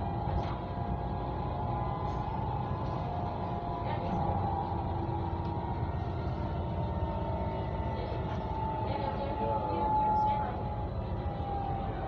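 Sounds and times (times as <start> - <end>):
train drive whine: 0.0 - 12.0
train low rumble: 0.0 - 12.0.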